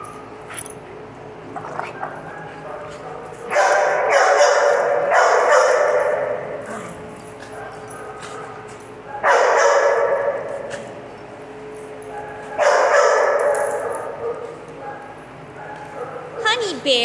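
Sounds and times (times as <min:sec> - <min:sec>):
small dogs barking and yapping: 0:01.8 - 0:11.1, 0:12.0 - 0:16.8.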